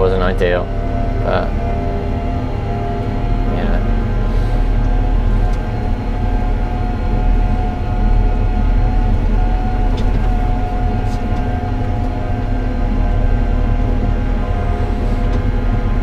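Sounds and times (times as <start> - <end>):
tractor engine droning: 0.0 - 16.0.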